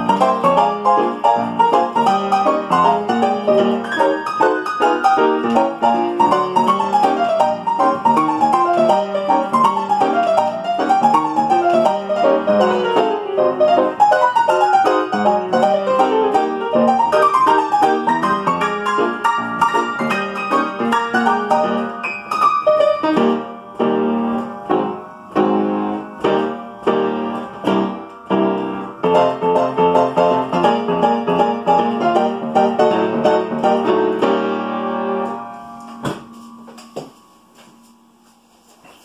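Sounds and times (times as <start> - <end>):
player piano chords: 0.0 - 39.0.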